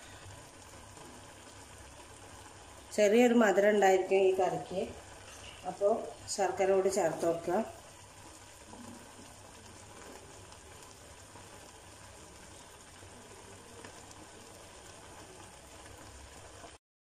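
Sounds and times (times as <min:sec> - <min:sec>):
curry bubbling in a pot: 0:00.0 - 0:16.8.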